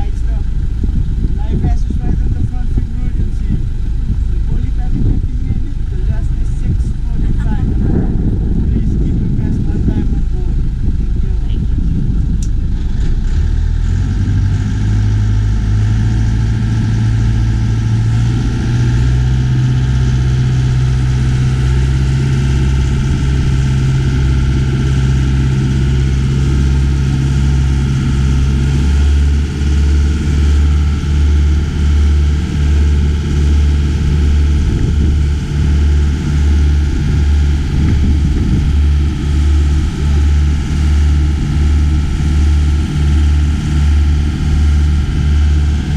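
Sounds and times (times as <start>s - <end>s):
motorboat engine running: 0.0s - 45.9s
rushing wind and water: 0.0s - 45.9s.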